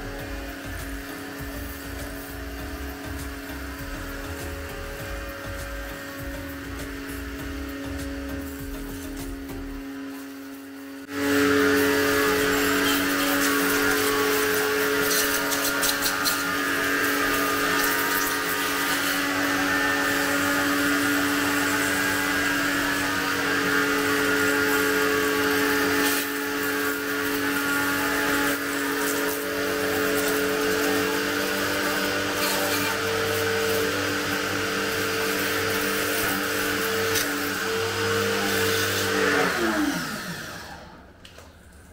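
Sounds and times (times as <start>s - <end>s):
high-pressure water jet hissing: 0.0s - 39.2s
pressure washer motor hum: 0.0s - 41.9s.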